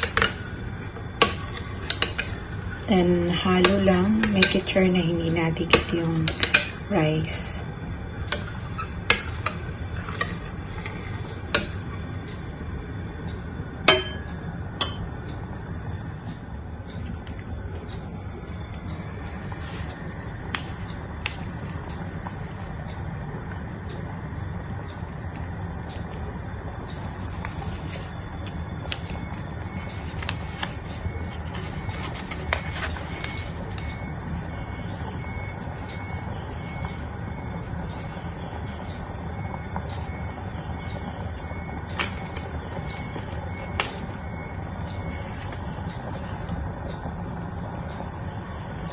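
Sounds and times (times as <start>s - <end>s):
steady low rumble: 9.4s - 48.9s.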